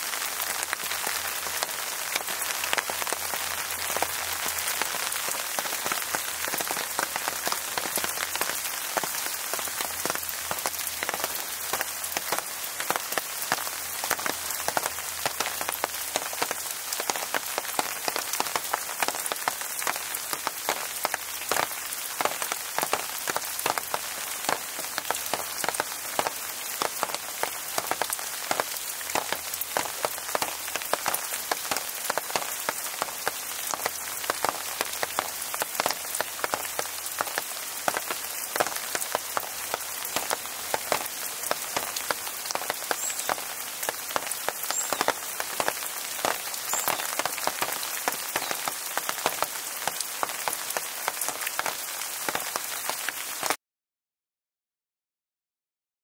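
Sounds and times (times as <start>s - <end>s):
steady rain hiss: 0.0s - 53.6s
raindrops ticking: 0.2s - 53.6s.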